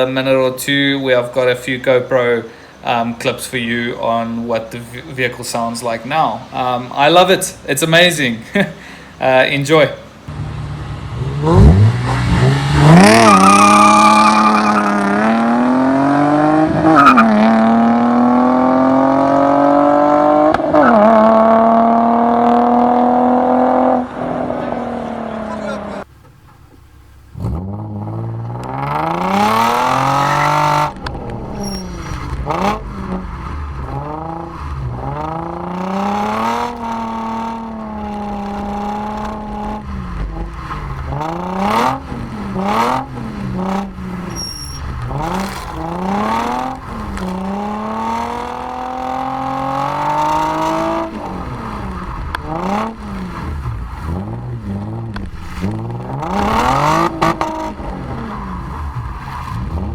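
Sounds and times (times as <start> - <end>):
car engine accelerating hard: 10.3 - 26.1, 27.3 - 59.9.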